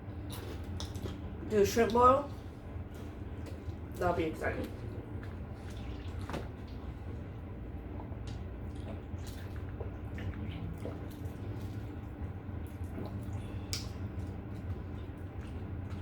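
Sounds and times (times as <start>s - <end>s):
steady low hum: 0.0s - 16.0s
wet chewing and mouth noises: 0.1s - 16.0s.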